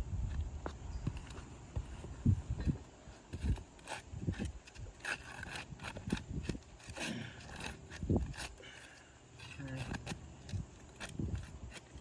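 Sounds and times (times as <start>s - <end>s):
hand tools on roof shingles: 1.1s - 12.0s.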